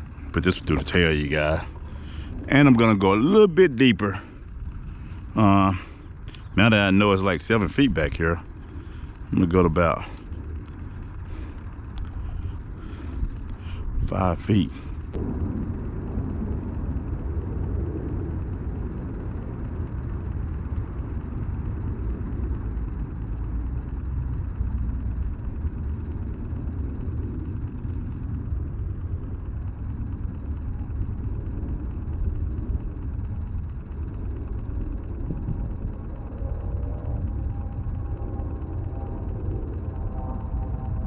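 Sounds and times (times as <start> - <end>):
wind rumbling on microphone: 0.0 - 41.0.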